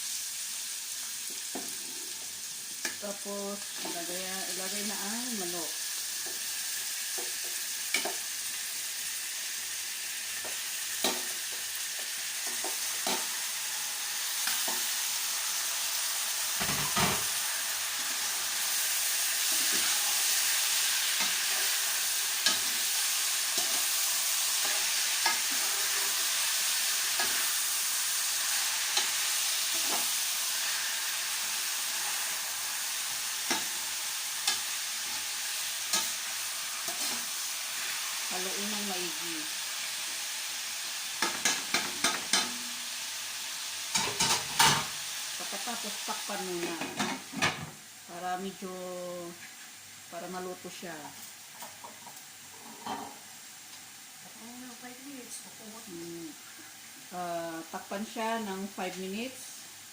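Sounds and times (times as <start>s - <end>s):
chicken sizzling in oil: 0.0s - 59.9s.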